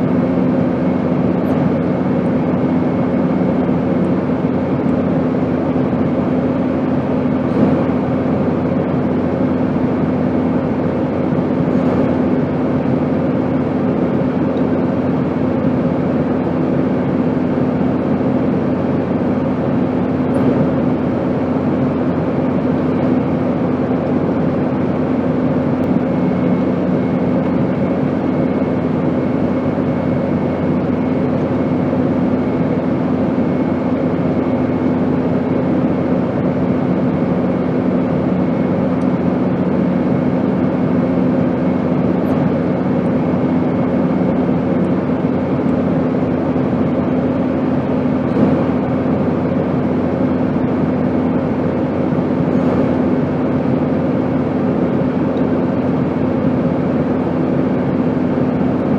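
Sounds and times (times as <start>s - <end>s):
airplane engine drone: 0.0s - 58.9s.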